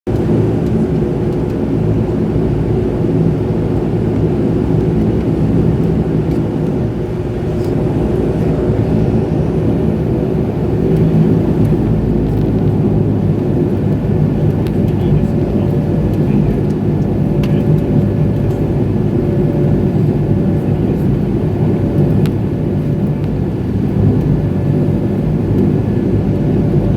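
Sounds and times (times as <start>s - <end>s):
turboprop engines droning: 0.1s - 26.9s.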